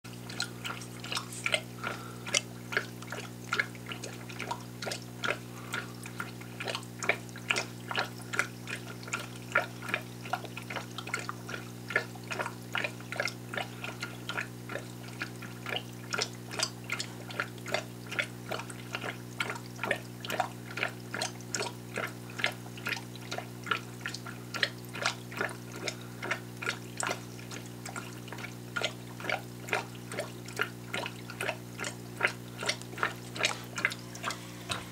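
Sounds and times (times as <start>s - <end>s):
aquarium air bubbler gurgling: 0.1s - 34.9s.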